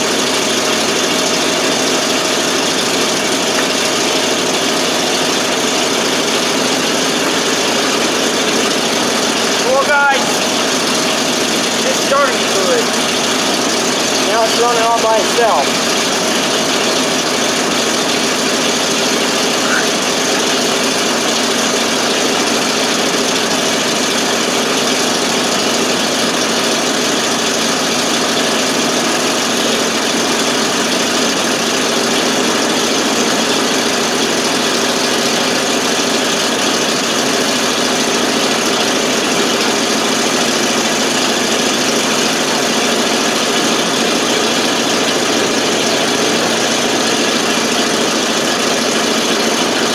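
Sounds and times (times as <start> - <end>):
truck engine idling: 0.0 - 49.9.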